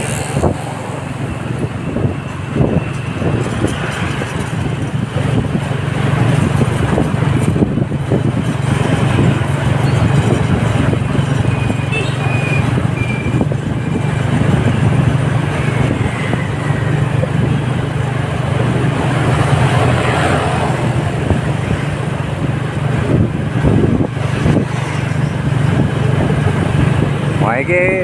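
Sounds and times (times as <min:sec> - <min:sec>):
motorbikes passing: 0:00.0 - 0:28.0
vehicle engine hum and road noise: 0:00.0 - 0:28.0.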